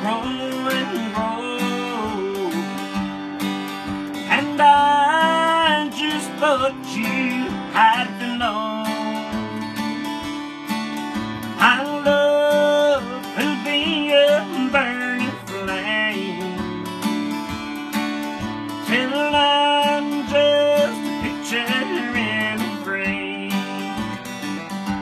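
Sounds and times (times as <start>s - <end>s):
acoustic guitar ballad: 0.0s - 25.0s.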